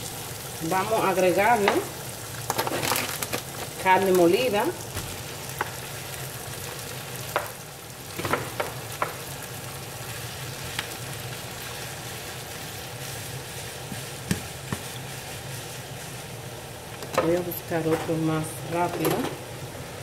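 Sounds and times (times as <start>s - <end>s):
meat and vegetables sizzling in a pan: 0.0s - 20.0s.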